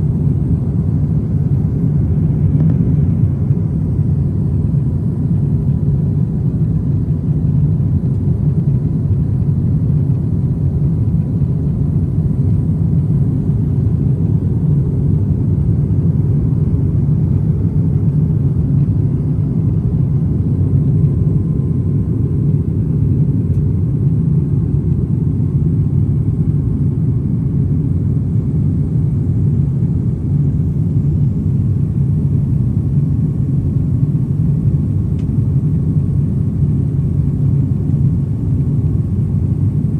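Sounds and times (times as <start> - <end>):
airliner cabin engine rumble: 0.0 - 39.9
faint steady whine: 0.0 - 39.9.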